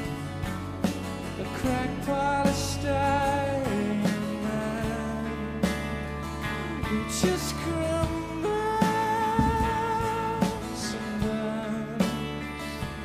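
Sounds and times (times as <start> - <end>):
background music with sliding melody: 0.0 - 13.0.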